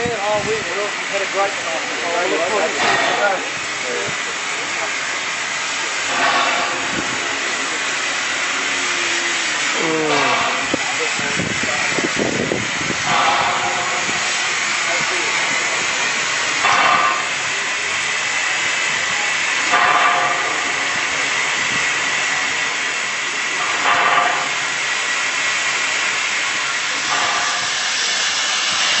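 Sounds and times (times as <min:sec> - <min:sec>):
steam locomotive hissing: 0:00.0 - 0:29.0
steam locomotive puff: 0:02.6 - 0:04.3, 0:05.0 - 0:17.5, 0:18.6 - 0:29.0.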